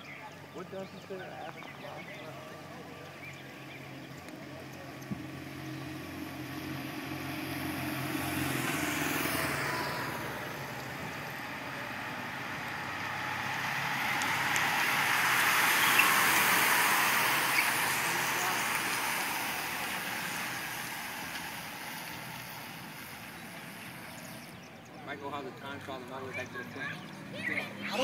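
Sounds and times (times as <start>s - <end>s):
vehicle engine passing: 0.0s - 28.0s
racing bicycles sweeping past: 1.6s - 28.0s.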